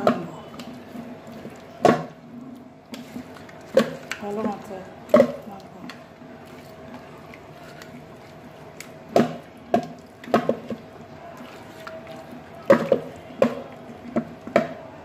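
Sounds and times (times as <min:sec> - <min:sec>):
wet squelching of fish: 0:00.0 - 0:14.6.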